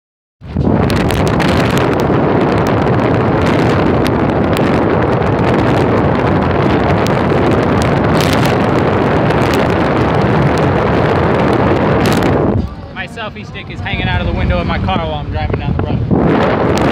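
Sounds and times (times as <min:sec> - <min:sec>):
wind buffeting crackles: 0:00.4 - 0:16.9
wind rushing over microphone: 0:00.4 - 0:16.9.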